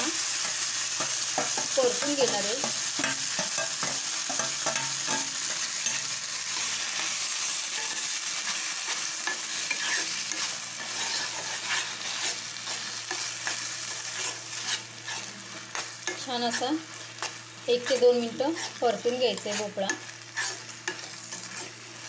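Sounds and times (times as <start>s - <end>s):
pumpkin sizzling in ghee: 0.0s - 22.0s
spatula scraping pan: 0.4s - 21.8s.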